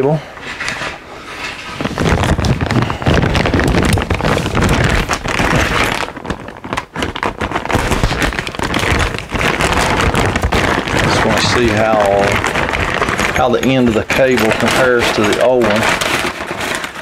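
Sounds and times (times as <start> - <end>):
plastic bag crinkling: 0.4 - 17.0.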